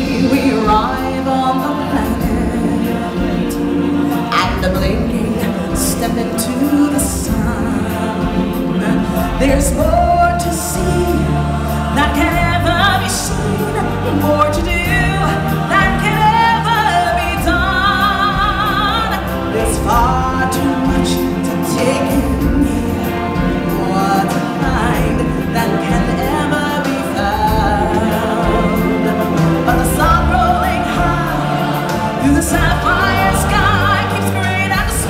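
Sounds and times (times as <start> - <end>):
choir singing: 0.0 - 35.0
musical accompaniment: 0.0 - 35.0
person singing: 0.0 - 35.0.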